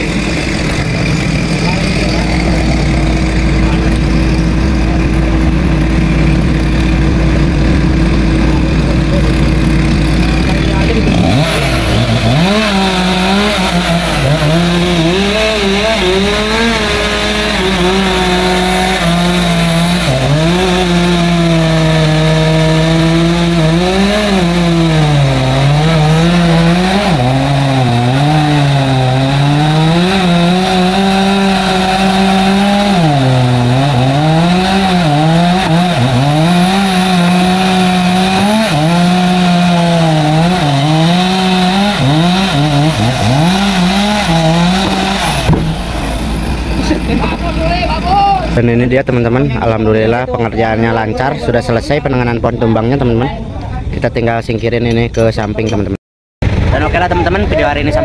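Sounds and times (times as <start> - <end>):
chainsaw cutting wood: 0.0 - 47.2.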